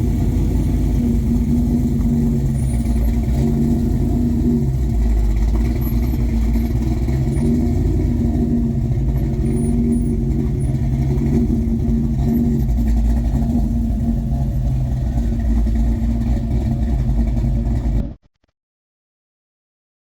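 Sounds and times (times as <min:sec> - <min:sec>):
car engine idling: 0:00.0 - 0:18.1.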